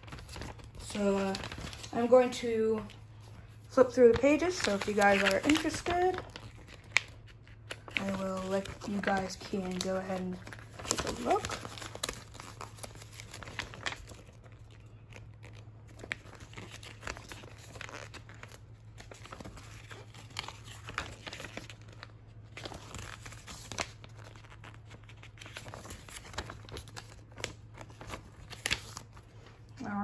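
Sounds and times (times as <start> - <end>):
paper pages rustling: 0.0 - 29.7.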